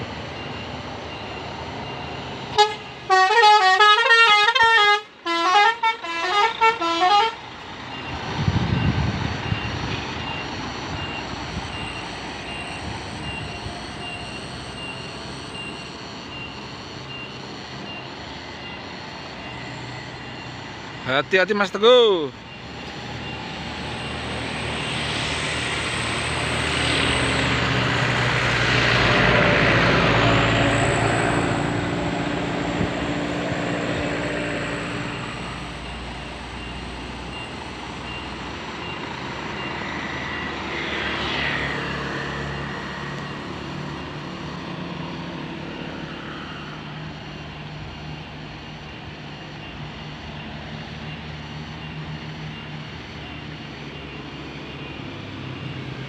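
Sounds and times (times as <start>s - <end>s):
bus diesel engine passing: 0.0s - 56.0s
road traffic: 0.0s - 56.0s.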